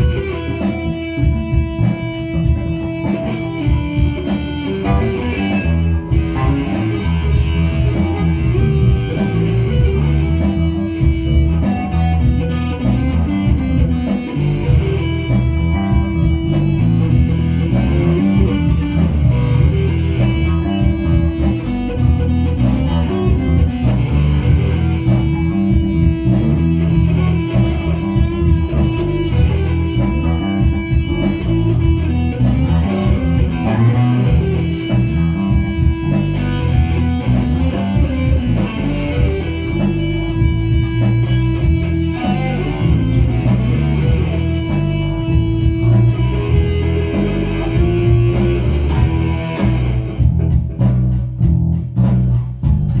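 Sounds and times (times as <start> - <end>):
bass guitar line: 0.0 - 53.0
electric guitar riff: 0.0 - 53.0.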